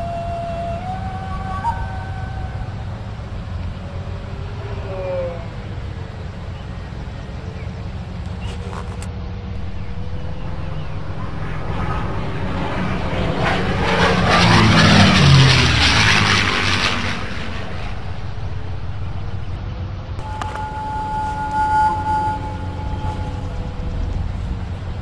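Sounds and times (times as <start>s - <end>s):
propeller aeroplane flying past: 0.0s - 25.0s
steady low rumble: 0.0s - 25.0s.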